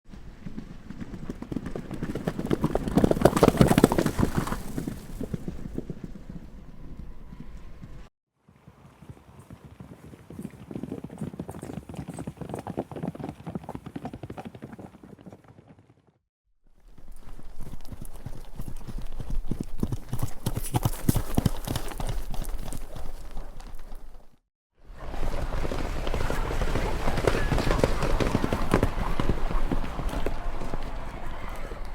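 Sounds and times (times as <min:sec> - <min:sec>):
horses galloping hoofbeats: 0:00.1 - 0:16.1, 0:16.8 - 0:24.4, 0:25.0 - 0:31.9.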